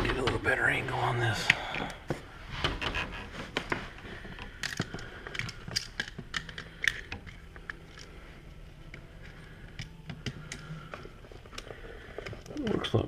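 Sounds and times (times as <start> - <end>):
handling clicks taps and scrapes: 1.4 - 13.0.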